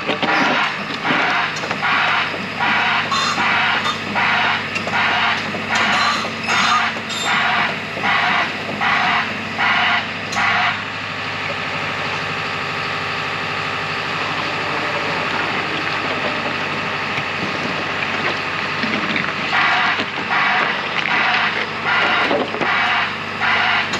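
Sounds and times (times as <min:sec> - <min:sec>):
diesel engine running: 0:00.0 - 0:23.9
hissing backup alarm pulsing: 0:00.3 - 0:23.9.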